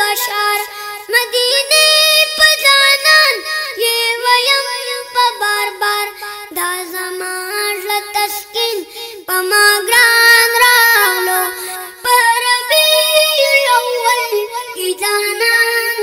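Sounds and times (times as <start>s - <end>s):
boy singing devotional song: 0.0s - 16.0s.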